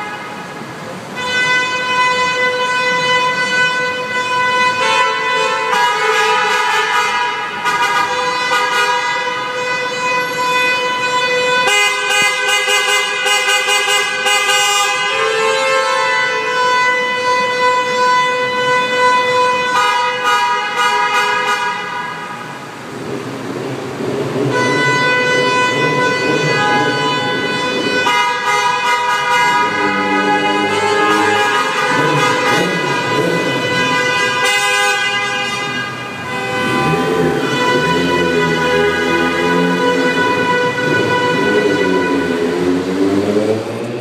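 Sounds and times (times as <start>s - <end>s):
many car horns honking: 0.0s - 22.8s, 24.4s - 43.6s.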